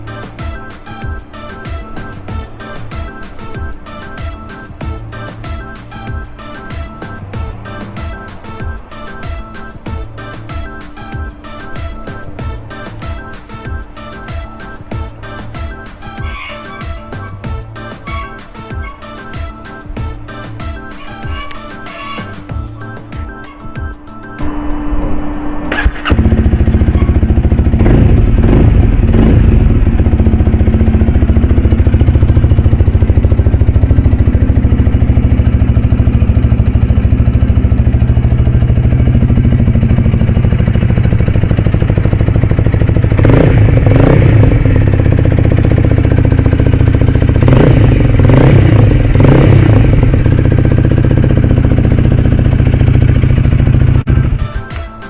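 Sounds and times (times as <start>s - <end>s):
motorcycle engine starting and idling: 0.0s - 23.3s, 24.4s - 54.5s.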